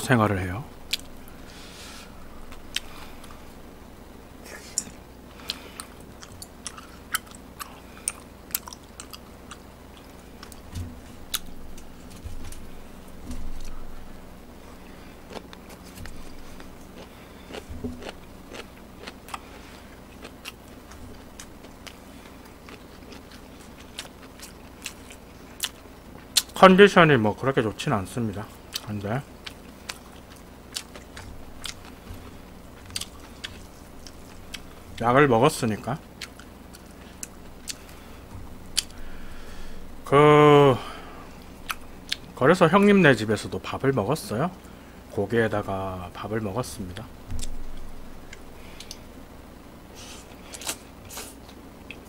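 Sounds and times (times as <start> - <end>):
man chewing food: 0.7 - 26.6, 28.5 - 35.2, 36.0 - 40.1, 40.8 - 42.4, 47.2 - 52.0.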